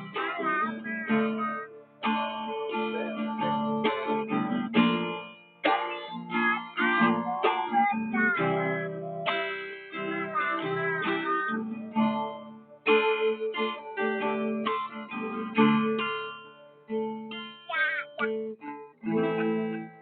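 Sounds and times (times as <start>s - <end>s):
young child singing: 0.0s - 4.4s, 5.6s - 16.3s, 17.7s - 20.0s
strummed acoustic guitar: 0.0s - 20.0s.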